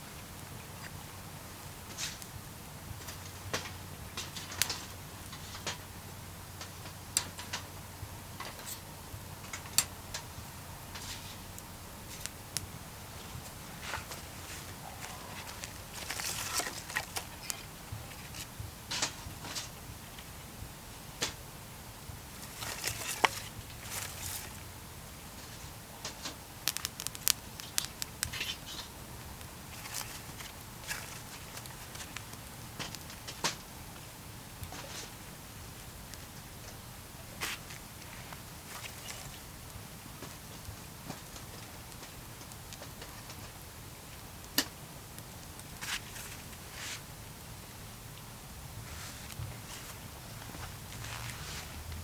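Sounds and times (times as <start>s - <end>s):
campfire crackling and popping: 0.2s - 48.3s.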